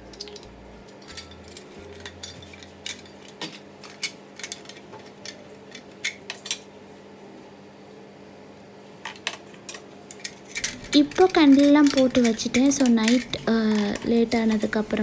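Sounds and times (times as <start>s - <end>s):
metal lanterns clicking: 0.1s - 6.6s, 9.2s - 14.8s.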